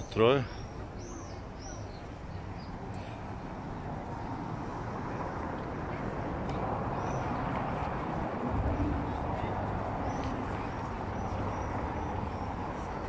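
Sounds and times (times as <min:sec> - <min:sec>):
busy promenade background noise: 0:00.0 - 0:13.0.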